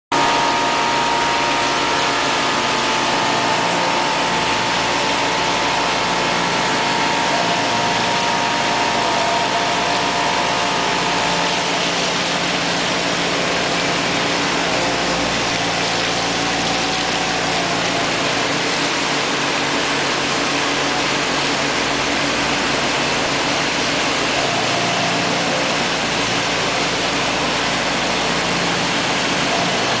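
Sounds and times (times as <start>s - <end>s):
machine whine: 0.1s - 30.0s
water coolant hiss: 0.2s - 30.0s.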